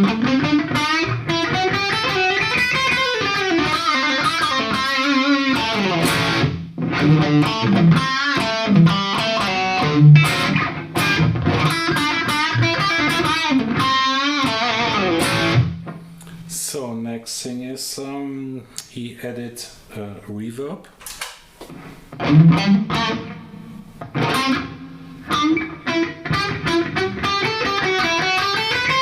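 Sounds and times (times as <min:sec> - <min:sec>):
overdriven electric guitar lead: 0:00.0 - 0:16.4, 0:22.1 - 0:29.0.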